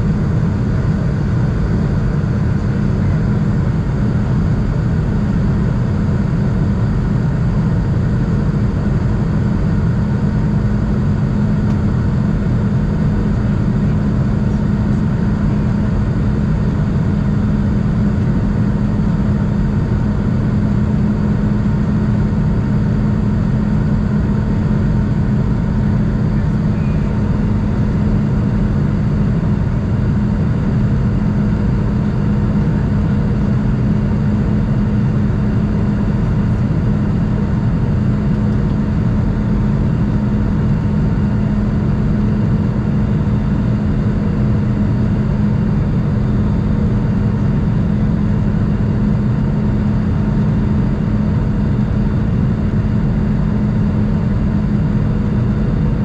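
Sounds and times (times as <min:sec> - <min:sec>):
jet engine cabin drone: 0:00.0 - 0:56.0.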